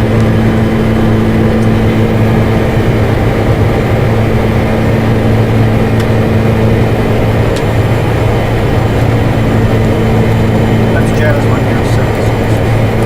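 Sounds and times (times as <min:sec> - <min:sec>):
cockpit engine hum: 0:00.0 - 0:13.0.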